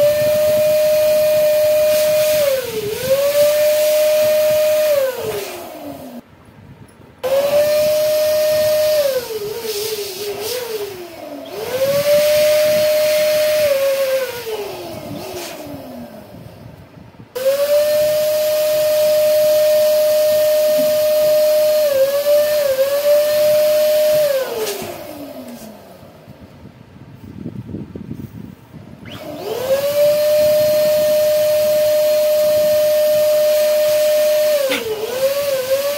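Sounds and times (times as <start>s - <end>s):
electric balloon pump whining: 0.0s - 6.2s, 7.2s - 16.6s, 17.4s - 26.4s, 29.0s - 35.9s.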